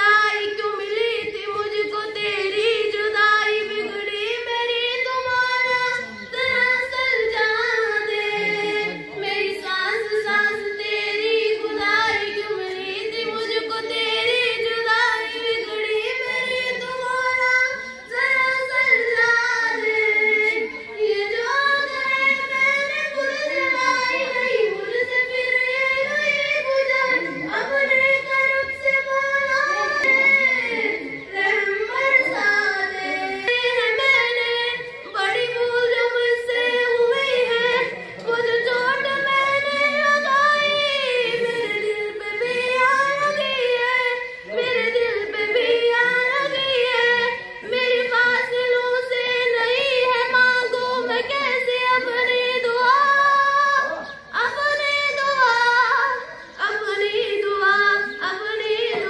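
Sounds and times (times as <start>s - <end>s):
girl singing slow melody: 0.0s - 59.0s.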